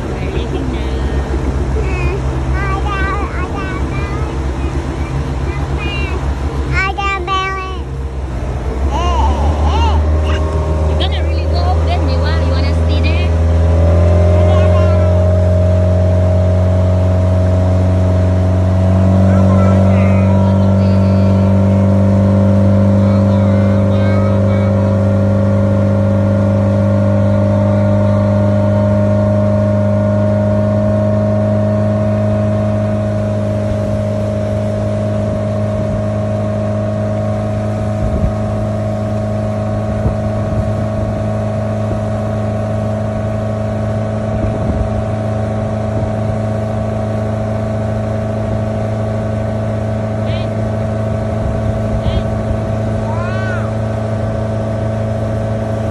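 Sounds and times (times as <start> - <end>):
boat motor droning: 0.0 - 55.9.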